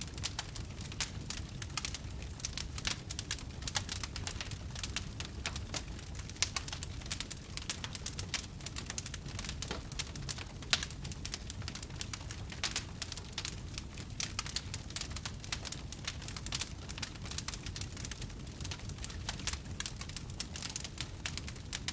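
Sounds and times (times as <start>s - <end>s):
campfire crackling and popping: 0.0s - 21.9s
low rumble of flame: 0.0s - 21.9s.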